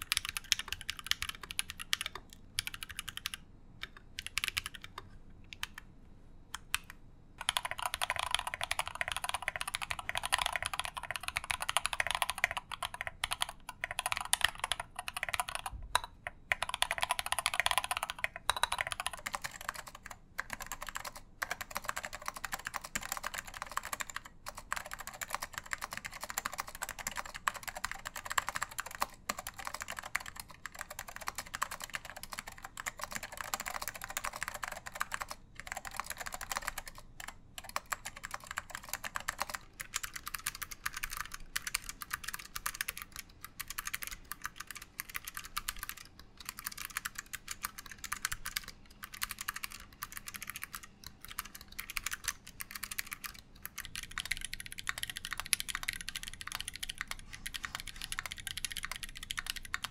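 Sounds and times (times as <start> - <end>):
mechanical keyboard typing: 0.0 - 5.9, 6.6 - 59.9.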